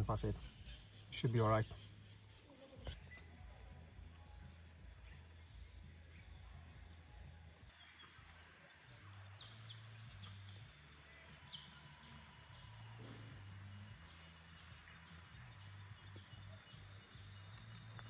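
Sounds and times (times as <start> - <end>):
faint bird chirps: 0.2 - 18.0.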